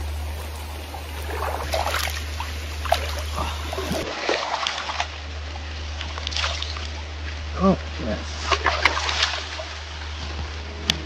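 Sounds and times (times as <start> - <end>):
steady low rumble: 0.0 - 11.0
water splashing and dripping: 0.0 - 11.0.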